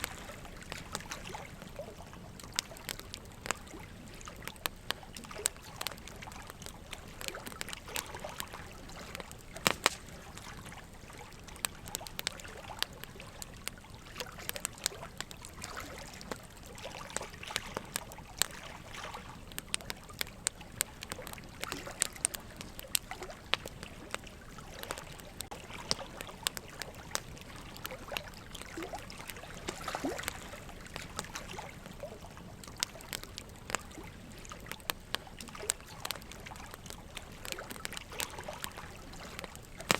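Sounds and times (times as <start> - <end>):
campfire crackling and popping: 0.0 - 39.9
low steady hiss: 0.0 - 39.9.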